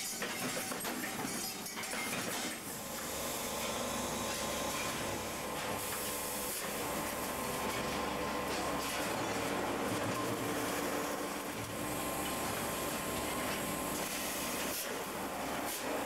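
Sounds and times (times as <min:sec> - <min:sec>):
sheet metal machinery running: 0:00.0 - 0:16.0.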